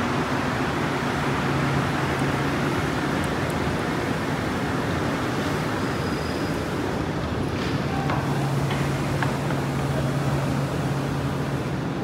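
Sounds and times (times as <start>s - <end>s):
metro train rumbling: 0.0s - 12.0s.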